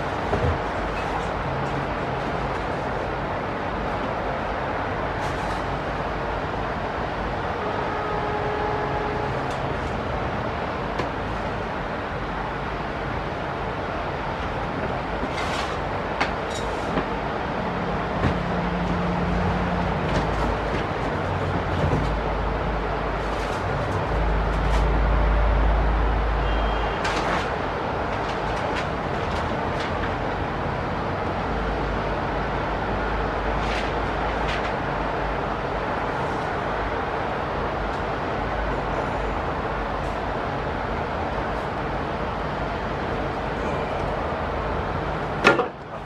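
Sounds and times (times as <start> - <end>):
distant city traffic: 0.0 - 46.0.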